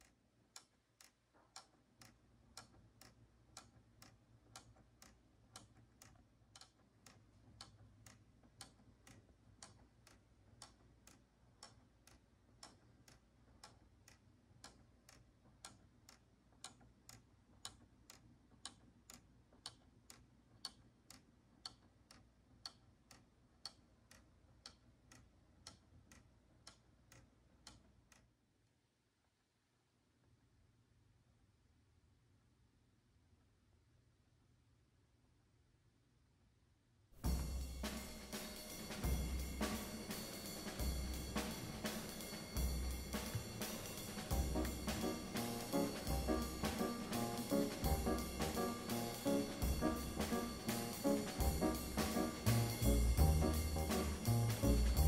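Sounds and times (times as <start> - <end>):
wooden clock ticking: 0.0 - 28.3, 37.2 - 55.0.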